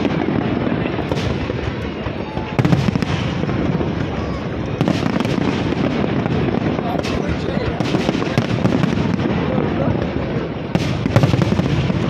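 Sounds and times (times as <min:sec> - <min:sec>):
fireworks crackling and booming: 0:00.0 - 0:12.0
sharp firework bangs: 0:00.0 - 0:12.0.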